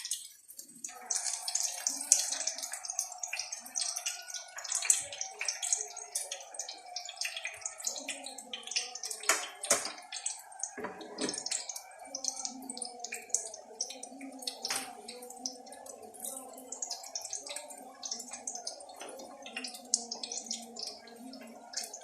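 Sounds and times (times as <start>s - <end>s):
hot oil crackling and popping: 0.0s - 22.0s.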